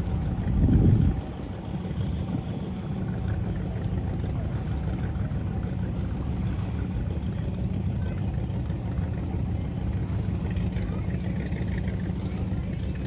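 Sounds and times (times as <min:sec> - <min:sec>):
motorboat rumble: 0:00.0 - 0:13.0.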